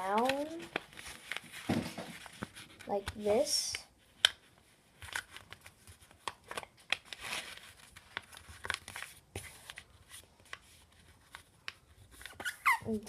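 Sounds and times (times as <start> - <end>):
paper being folded and creased: 0.0 - 13.0.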